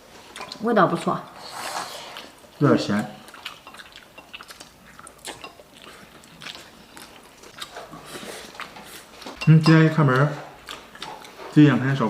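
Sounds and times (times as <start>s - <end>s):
person chewing: 0.1s - 0.6s, 1.3s - 11.6s.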